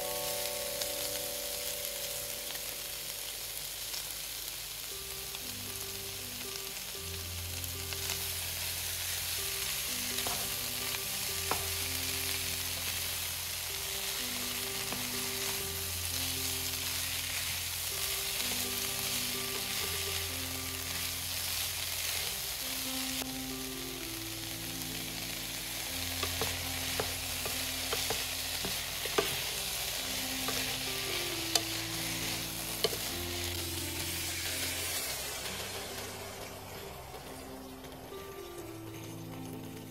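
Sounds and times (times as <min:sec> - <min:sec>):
food sizzling in a pan: 0:00.0 - 0:39.9
soft background music: 0:00.0 - 0:39.9.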